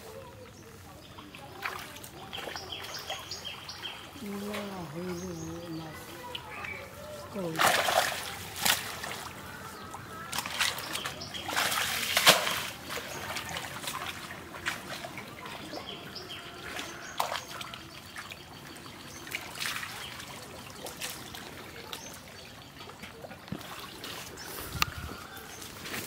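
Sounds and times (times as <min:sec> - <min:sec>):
water trickling and dripping: 0:00.0 - 0:25.6
small water splashes: 0:00.0 - 0:26.0.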